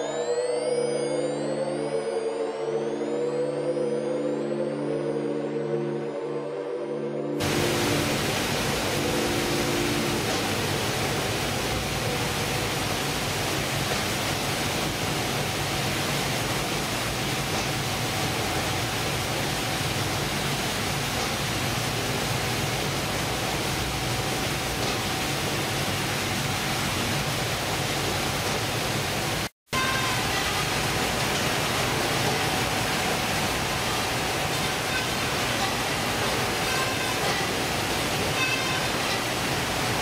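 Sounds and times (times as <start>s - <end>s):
processing machinery hiss and hum: 7.4s - 40.0s.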